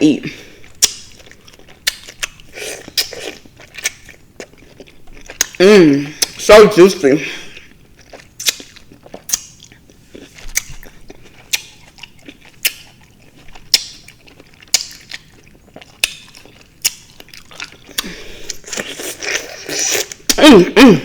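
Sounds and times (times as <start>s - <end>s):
wet chewing of fruit: 0.4s - 6.5s, 7.4s - 20.6s.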